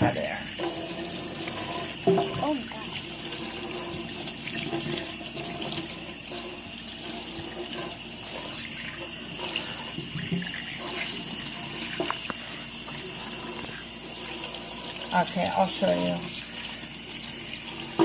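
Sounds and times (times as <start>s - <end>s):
tap water running into sink: 0.0s - 18.0s.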